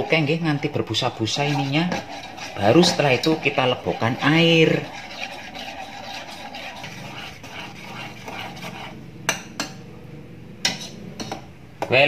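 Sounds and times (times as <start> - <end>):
spoon scraping sugar in metal pot: 0.0 - 9.8, 10.6 - 11.4.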